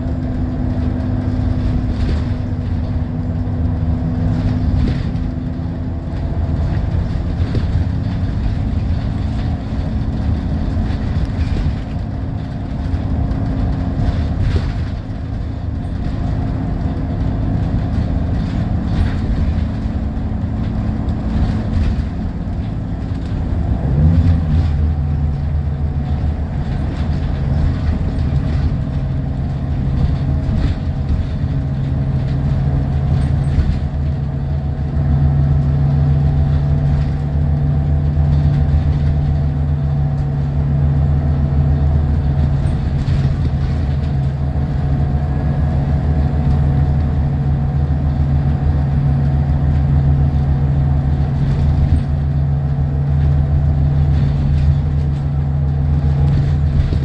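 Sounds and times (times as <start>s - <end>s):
bus engine drone: 0.0s - 57.0s
road noise: 0.0s - 57.0s.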